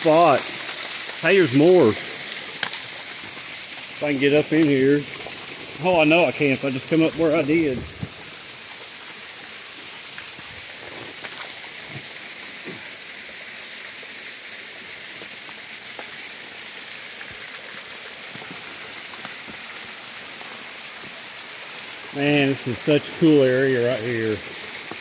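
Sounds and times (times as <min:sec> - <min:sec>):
waterfall splashing: 0:00.0 - 0:25.0.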